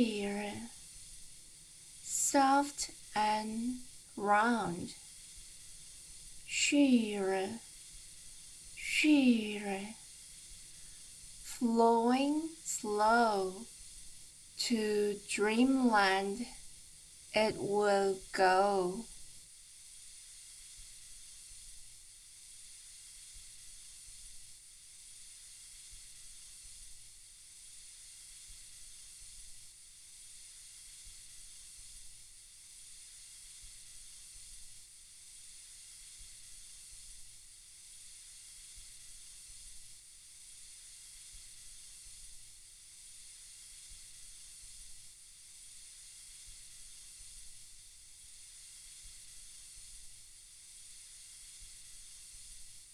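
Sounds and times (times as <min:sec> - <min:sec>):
faint white-noise hiss: 0:00.0 - 0:52.9.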